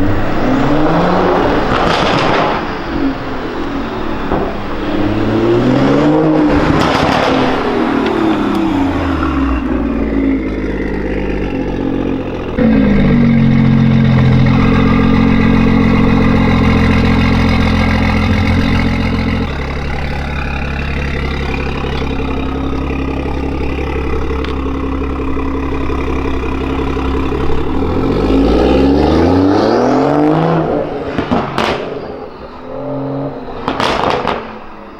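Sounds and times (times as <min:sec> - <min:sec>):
car engine revving: 0:00.0 - 0:34.9
exhaust pops and crackles: 0:01.4 - 0:29.3, 0:30.5 - 0:32.7, 0:33.6 - 0:34.9.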